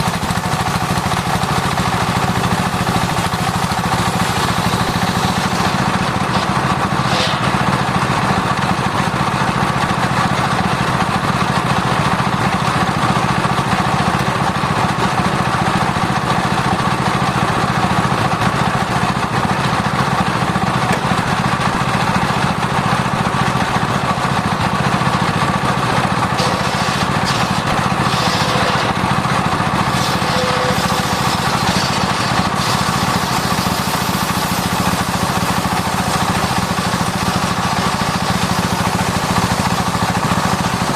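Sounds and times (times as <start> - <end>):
circular saw running: 0.0 - 40.9.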